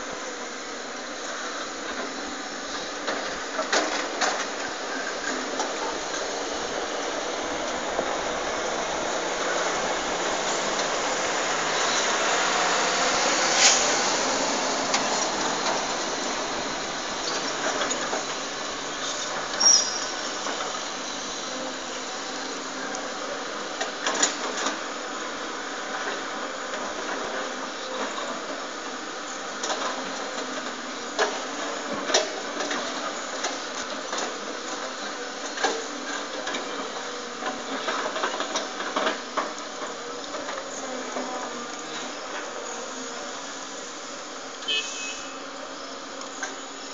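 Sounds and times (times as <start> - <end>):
excavator engine and hydraulics: 0.0 - 46.9.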